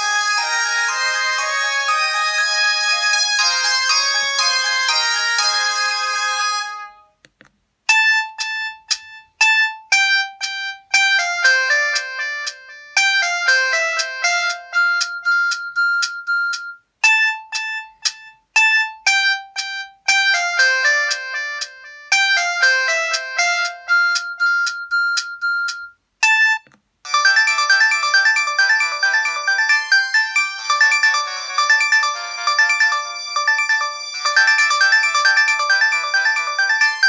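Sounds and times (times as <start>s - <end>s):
electronic phone ringtone melody: 0.0s - 7.0s, 7.9s - 37.0s.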